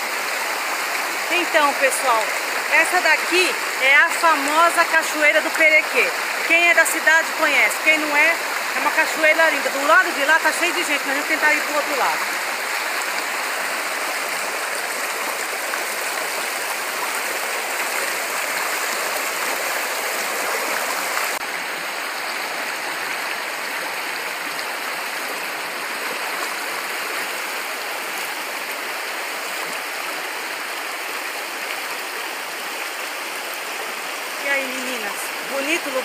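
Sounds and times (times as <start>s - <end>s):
stream rushing over stones: 0.0s - 36.0s.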